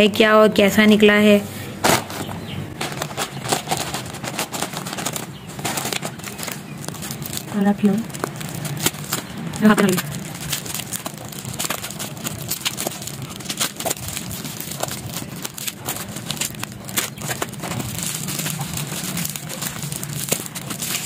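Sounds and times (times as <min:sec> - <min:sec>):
low steady hum: 0:00.0 - 0:21.0
bubble wrap crinkling: 0:01.8 - 0:21.0.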